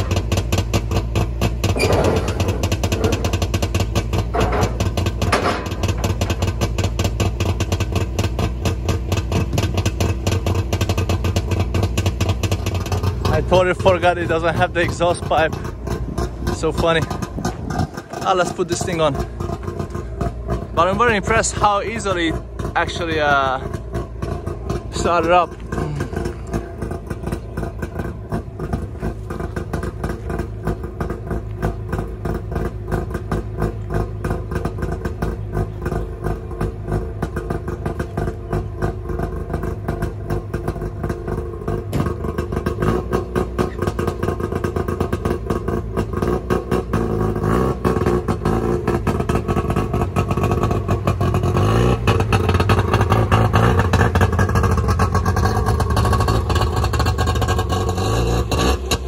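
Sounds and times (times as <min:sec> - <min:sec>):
two-stroke engine popping: 0:00.0 - 0:59.0.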